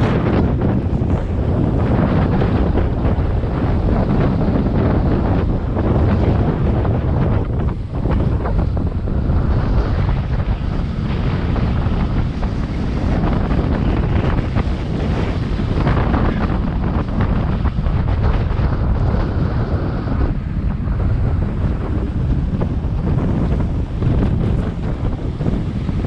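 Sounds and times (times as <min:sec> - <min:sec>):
ocean surf: 0:00.0 - 0:26.0.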